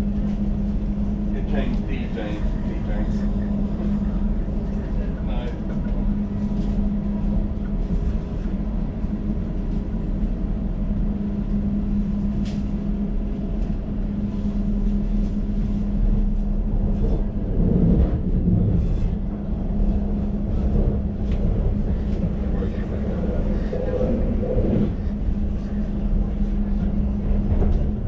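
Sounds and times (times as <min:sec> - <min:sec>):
train rumble inside carriage: 0:00.0 - 0:28.0.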